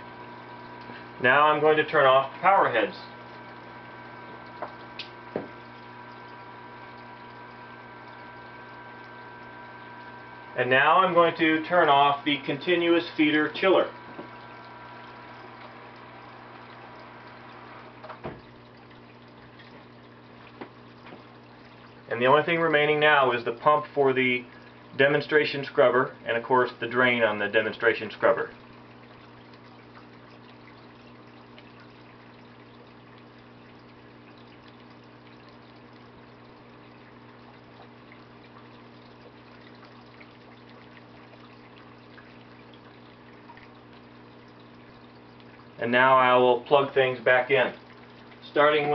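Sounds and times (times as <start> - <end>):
small water pump humming: 0.0 - 48.9
water trickling through drain: 0.0 - 48.9.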